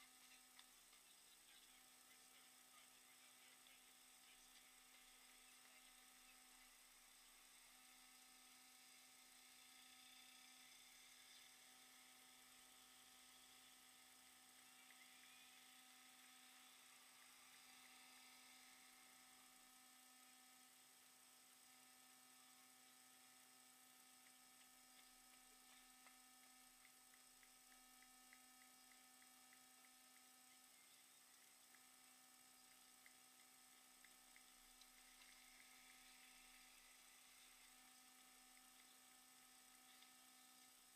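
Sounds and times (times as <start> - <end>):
faint electrical hum: 0.0 - 40.9
faint ticks: 0.0 - 40.9
thin steady tones: 0.0 - 40.9.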